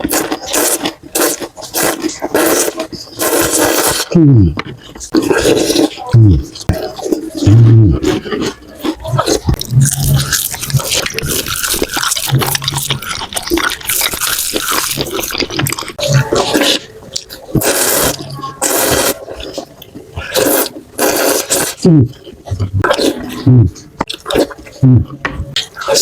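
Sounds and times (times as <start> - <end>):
slurping noodles: 0.0 - 4.4, 5.0 - 25.0
wet chewing: 0.0 - 26.0.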